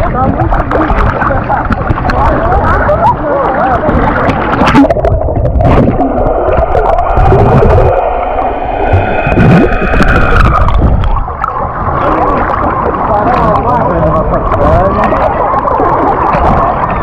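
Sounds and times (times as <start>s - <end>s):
underwater gurgling and bubbling: 0.0s - 17.0s.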